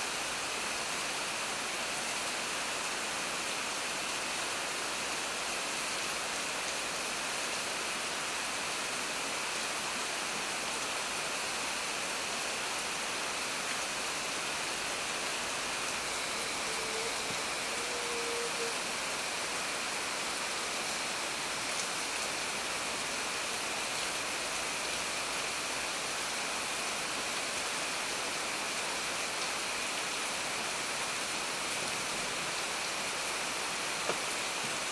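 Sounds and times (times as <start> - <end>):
rain on foliage: 0.0 - 34.9.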